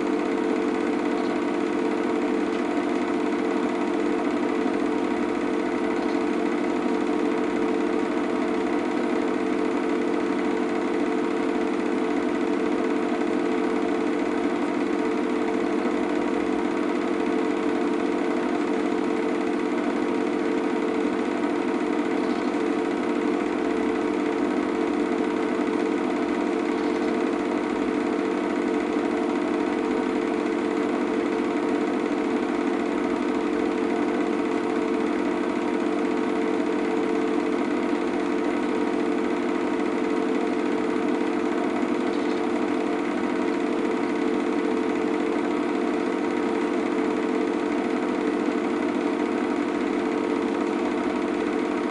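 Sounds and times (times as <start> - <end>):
film projector whirring and clattering: 0.0 - 51.9.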